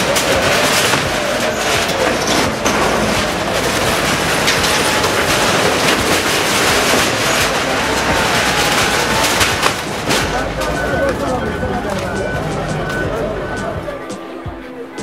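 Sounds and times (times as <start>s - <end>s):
diesel engine under load: 0.0s - 14.1s
metal roofing and timbers crashing: 0.0s - 15.0s.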